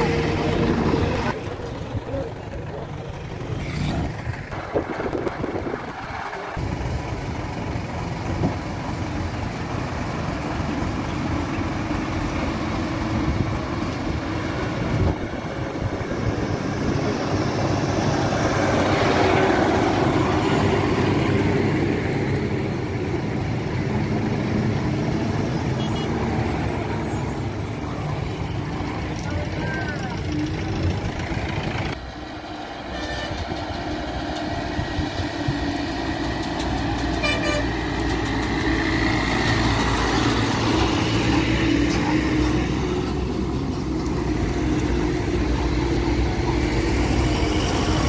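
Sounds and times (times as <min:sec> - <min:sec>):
lorry diesel engine: 0:00.0 - 0:48.0.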